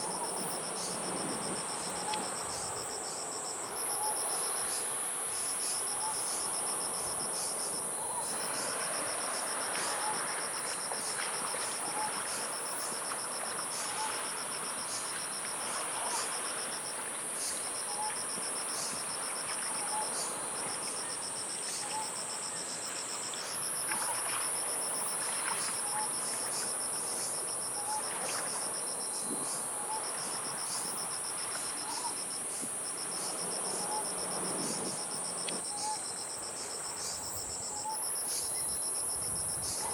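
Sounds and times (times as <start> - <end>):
cricket trill: 0.0 - 39.9.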